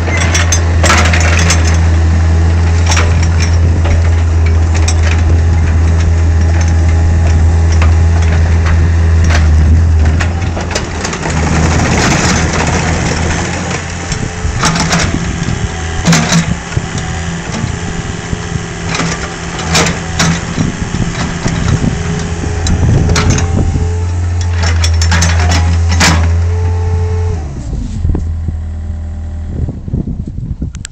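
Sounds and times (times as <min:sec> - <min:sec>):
excavator diesel engine running: 0:00.0 - 0:29.7.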